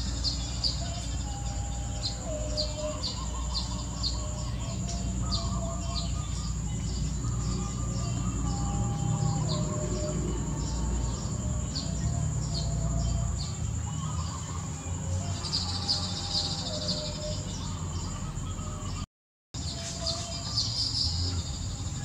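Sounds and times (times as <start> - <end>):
birds chattering: 0.0 - 19.0
birds chirping: 0.0 - 22.0.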